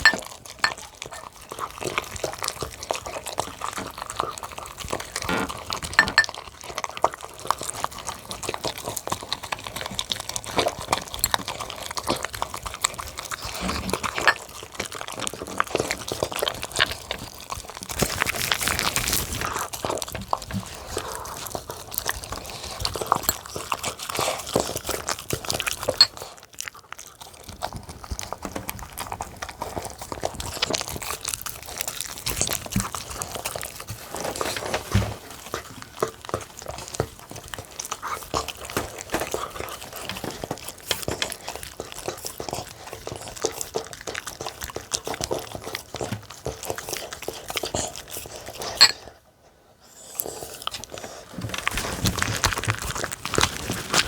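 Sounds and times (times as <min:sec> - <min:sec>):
dogs chewing food: 0:00.0 - 0:54.0.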